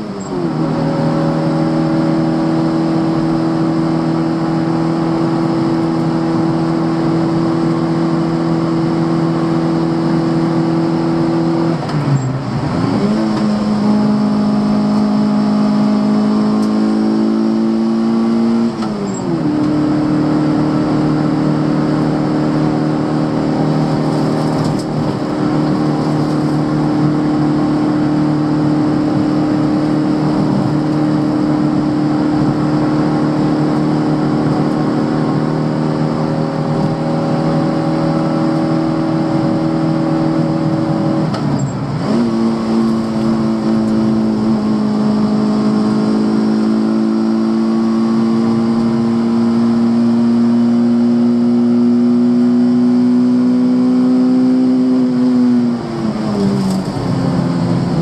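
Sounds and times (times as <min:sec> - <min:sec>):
small car engine running hard: 0:00.0 - 0:58.0.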